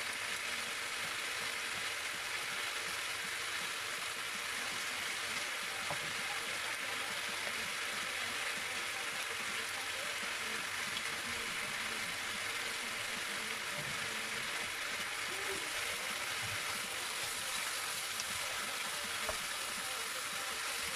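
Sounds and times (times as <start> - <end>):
chicken sizzling in a frying pan: 0.0 - 20.9.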